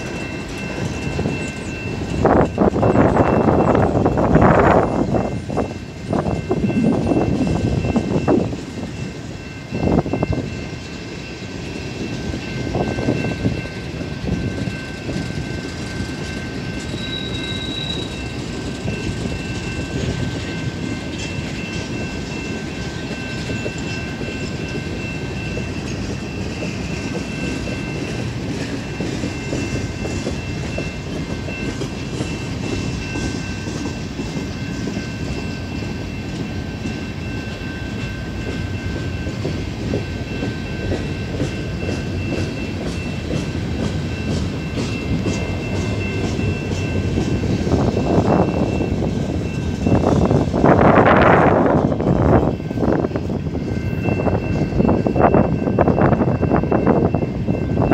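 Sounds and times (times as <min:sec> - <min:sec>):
freight train rumbling on rails: 0:00.0 - 0:57.9.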